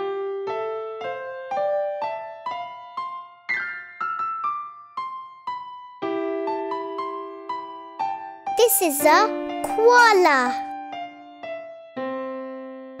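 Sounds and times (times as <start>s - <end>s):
electric piano melody: 0.0s - 10.5s.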